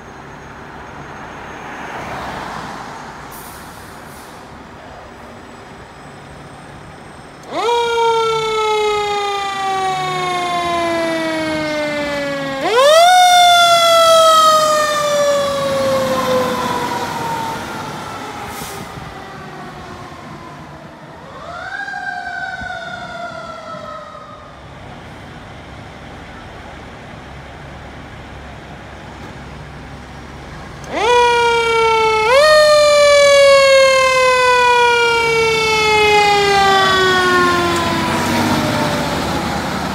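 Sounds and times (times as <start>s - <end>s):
fire engine sirens wailing: 0.0s - 39.9s
road noise: 0.0s - 39.9s.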